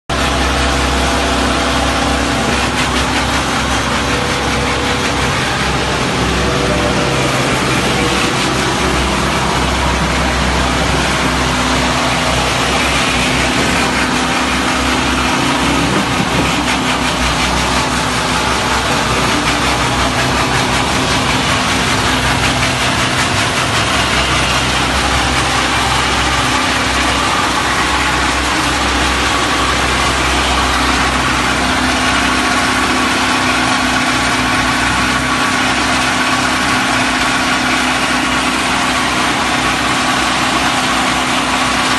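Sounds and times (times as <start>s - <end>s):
diesel engine running: 0.1s - 41.9s.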